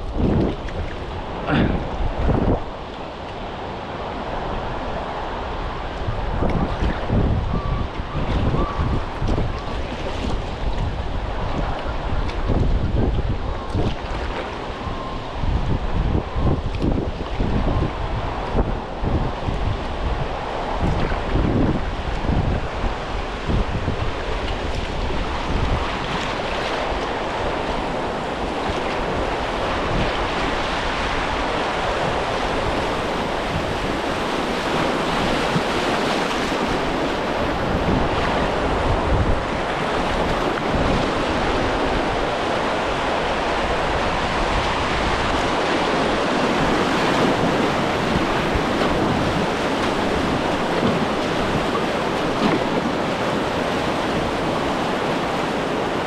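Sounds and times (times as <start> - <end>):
river water rushing: 0.0 - 56.0
wind buffeting microphone: 0.0 - 56.0.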